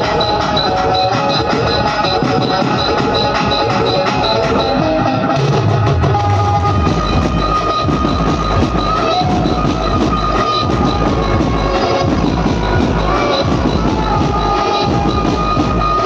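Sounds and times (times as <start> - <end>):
band playing loud music: 0.0 - 16.0
drums beating: 0.0 - 16.0
held melody line: 0.0 - 16.0.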